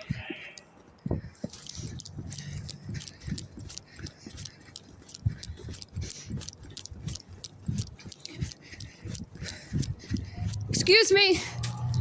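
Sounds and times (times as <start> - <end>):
brisk walking footsteps: 0.0 - 12.0
carried things clinking and rattling: 0.0 - 12.0.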